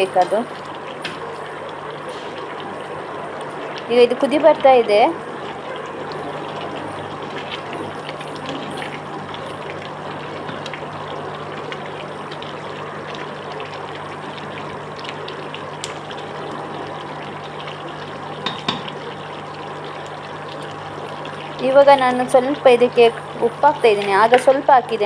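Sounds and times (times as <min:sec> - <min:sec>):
gravy bubbling and crackling: 0:00.0 - 0:25.0.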